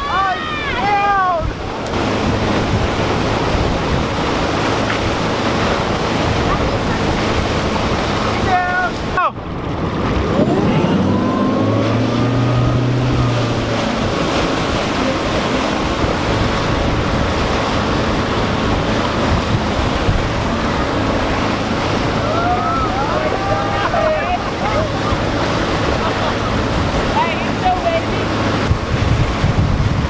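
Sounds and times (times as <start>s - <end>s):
boat engine revving: 0.0s - 30.0s
rushing water spray: 0.0s - 30.0s
wind buffeting microphone: 0.0s - 30.0s.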